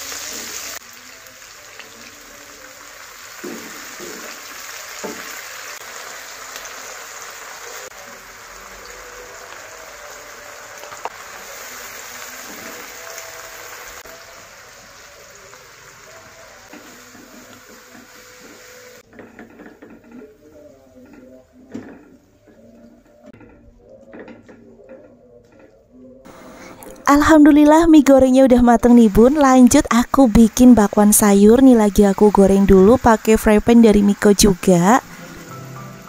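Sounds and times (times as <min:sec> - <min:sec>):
stir-fry sizzling in a wok: 0:00.0 - 0:23.4, 0:28.8 - 0:36.0.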